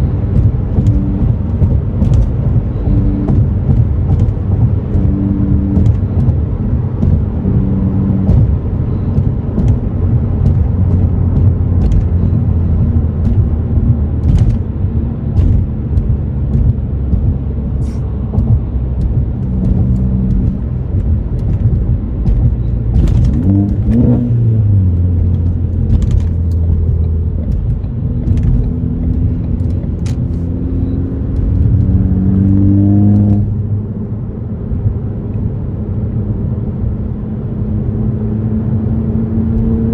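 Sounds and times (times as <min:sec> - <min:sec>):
car engine cruising: 0:00.0 - 0:39.9
road rumble: 0:00.0 - 0:39.9.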